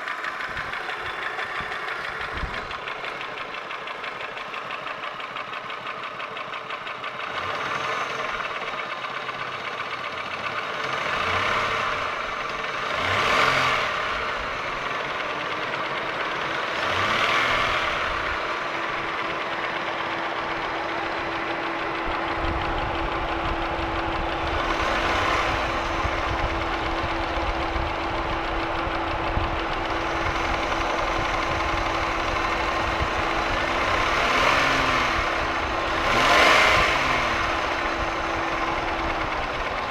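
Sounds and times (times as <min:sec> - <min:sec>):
car engine ticking knock: 0:00.0 - 0:39.9.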